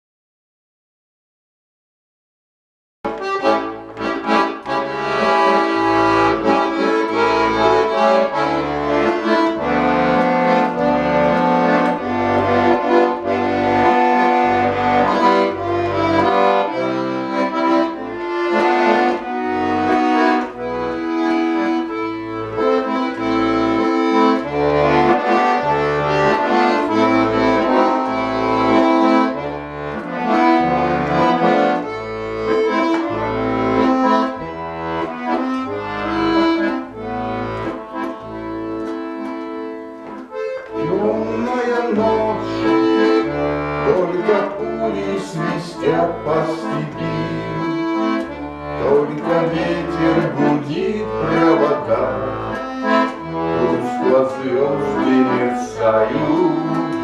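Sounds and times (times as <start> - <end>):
button accordion playing: 3.0 - 57.0.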